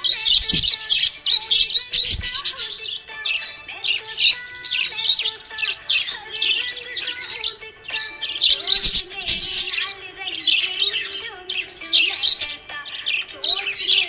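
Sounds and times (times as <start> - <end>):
budgerigar chirping: 0.0 - 14.0.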